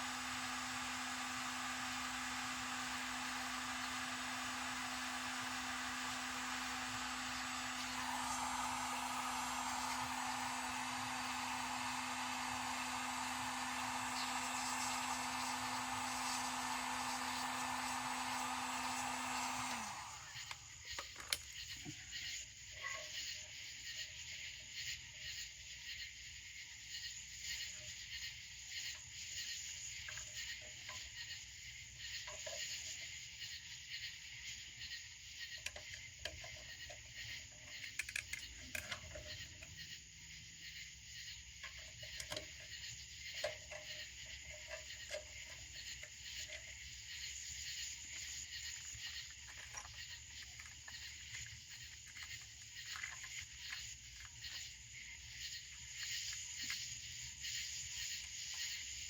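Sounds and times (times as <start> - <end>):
night insects chorus: 0.0 - 59.0.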